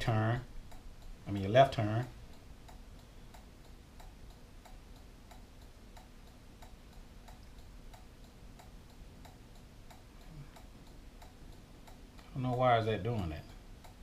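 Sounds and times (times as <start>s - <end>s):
turn-signal flasher ticking: 0.0s - 14.0s.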